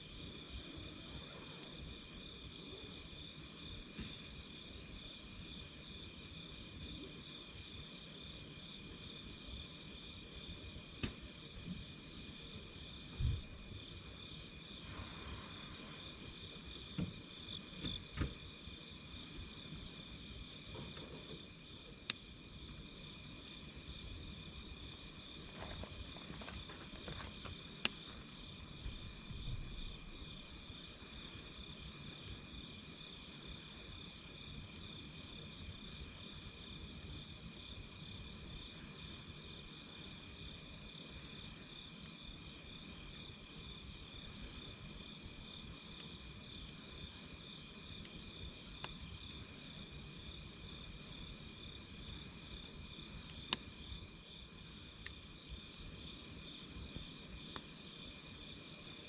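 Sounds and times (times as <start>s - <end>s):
campfire crackling pops: 0.0s - 7.2s, 9.8s - 39.6s, 40.4s - 59.0s
crickets chirping: 0.0s - 59.0s.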